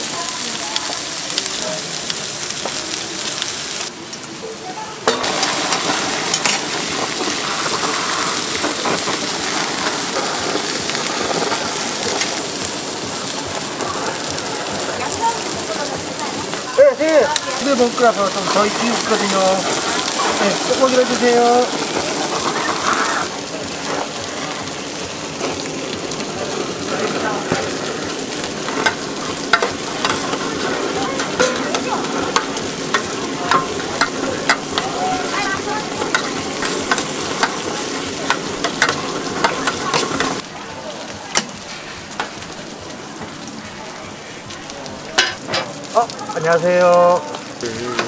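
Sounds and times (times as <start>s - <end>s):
food sizzling on a griddle: 0.0s - 48.0s.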